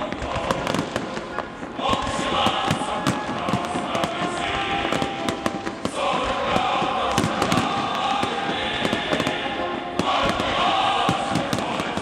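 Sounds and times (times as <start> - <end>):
fireworks bangs and crackle: 0.0 - 12.0
large crowd noise: 0.0 - 12.0.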